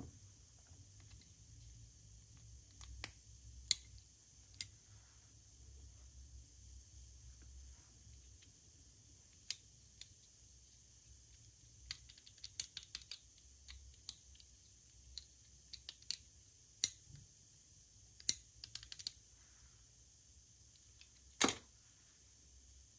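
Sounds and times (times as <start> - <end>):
faint steady hiss: 0.0 - 22.9.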